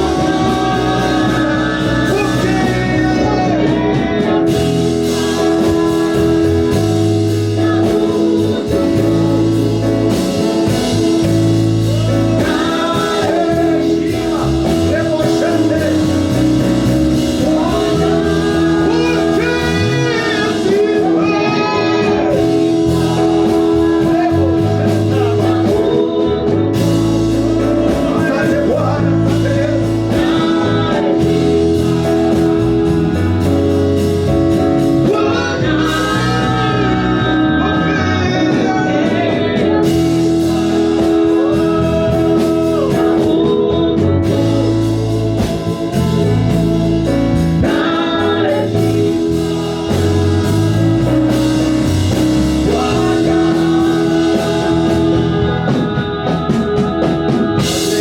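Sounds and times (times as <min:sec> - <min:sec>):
band with steady bass line: 0:00.0 - 0:58.0
voices singing gospel song: 0:00.0 - 0:58.0.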